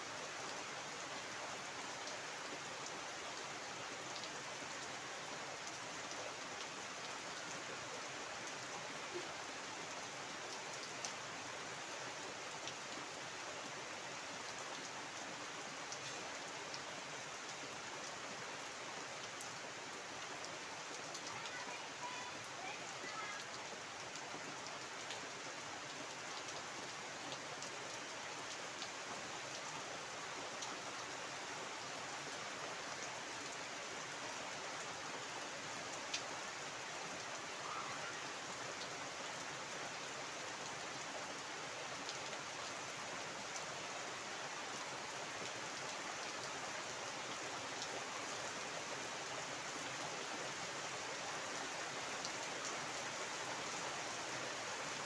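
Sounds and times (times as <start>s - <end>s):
heavy rain on water: 0.0s - 55.0s.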